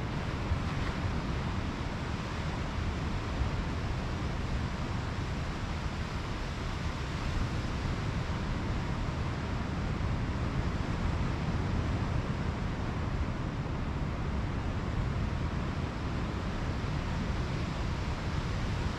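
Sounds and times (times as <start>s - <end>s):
wind rumbling on microphone: 0.0s - 18.9s.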